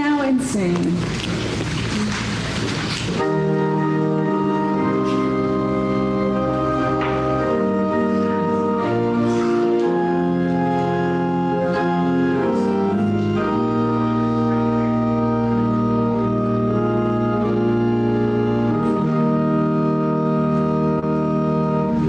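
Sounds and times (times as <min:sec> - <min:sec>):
church organ playing a hymn: 0:01.2 - 0:22.0.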